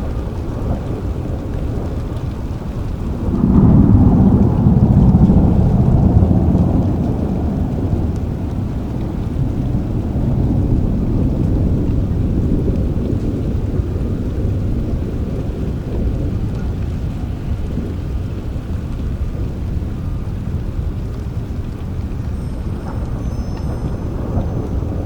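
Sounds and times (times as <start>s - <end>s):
rain falling: 0.0s - 25.0s
thunder rumbling: 0.0s - 25.0s.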